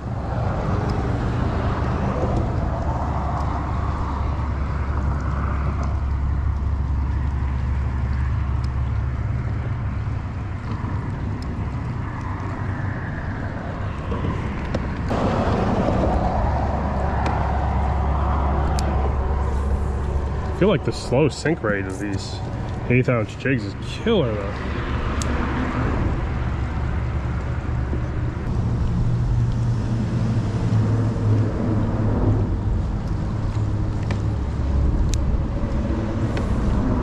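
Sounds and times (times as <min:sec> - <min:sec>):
road traffic noise: 0:00.0 - 0:37.0
wind buffeting microphone: 0:00.0 - 0:37.0.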